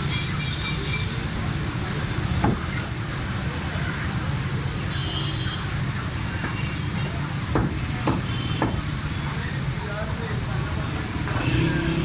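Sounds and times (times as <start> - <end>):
low rumble of street noise: 0.0 - 12.0.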